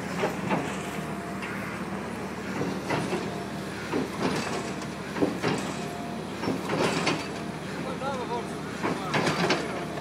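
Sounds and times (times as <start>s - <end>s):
excavator engine humming: 0.0s - 10.0s.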